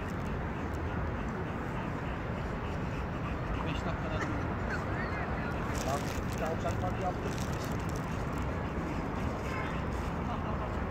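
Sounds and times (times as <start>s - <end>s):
low rumbling background noise: 0.0s - 10.9s.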